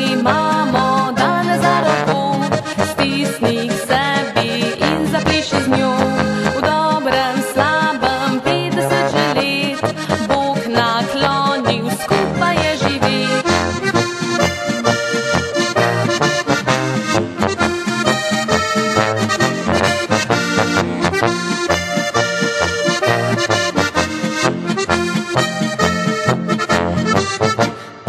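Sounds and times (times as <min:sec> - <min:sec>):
accordion folk-pop over steady beat: 0:00.0 - 0:28.0.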